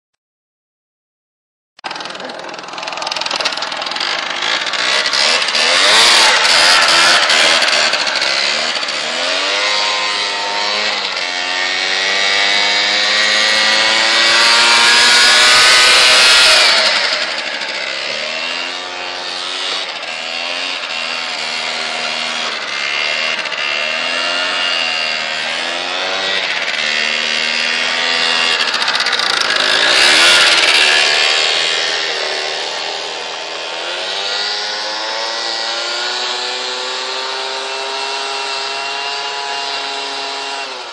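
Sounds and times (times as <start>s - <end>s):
scooter engine revving: 1.8s - 40.9s.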